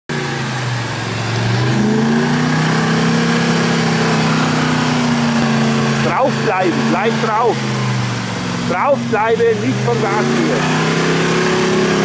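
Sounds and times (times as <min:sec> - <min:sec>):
truck engine revving under load: 0:00.1 - 0:12.0.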